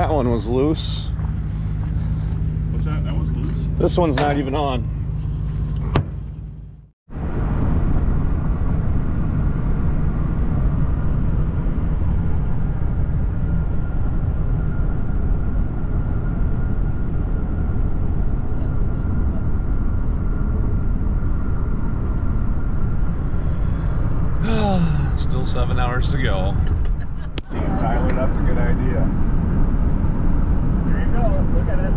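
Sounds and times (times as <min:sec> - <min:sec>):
road and wind noise: 0:00.0 - 0:31.9.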